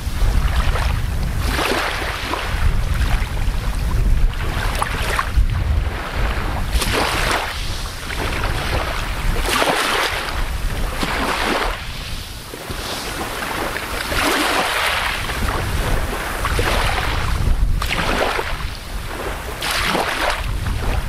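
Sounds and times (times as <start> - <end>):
small waves washing on beach: 0.0 - 21.0
wind rumble on microphone: 0.0 - 21.0.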